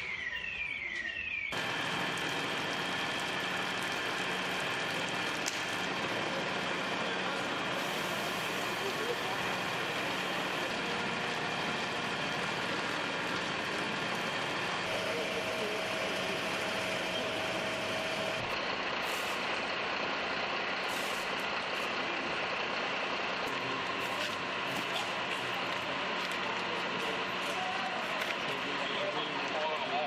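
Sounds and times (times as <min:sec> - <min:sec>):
truck engine running: 0:01.5 - 0:30.0.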